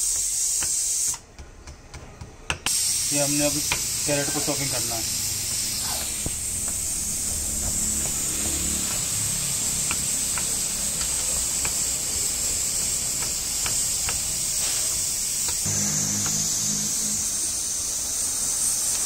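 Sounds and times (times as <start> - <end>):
steady high hiss: 2.7 - 19.0.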